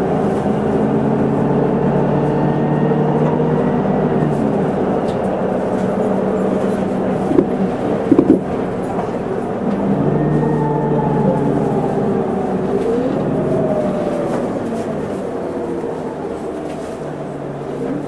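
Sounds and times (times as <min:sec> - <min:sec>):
bus engine running with whine: 0:00.0 - 0:18.0.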